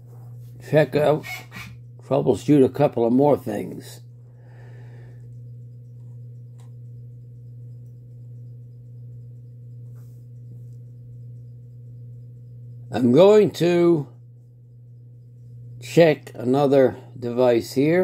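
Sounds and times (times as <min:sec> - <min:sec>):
faint buzz: 0:00.0 - 0:18.0
low electrical hum: 0:00.0 - 0:18.0.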